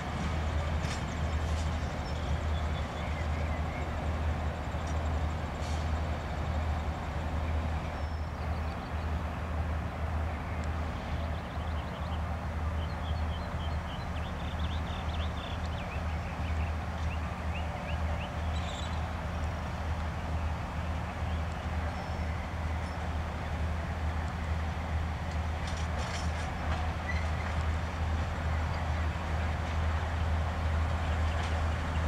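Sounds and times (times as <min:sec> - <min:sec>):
diesel train rumbling: 0:00.0 - 0:32.0.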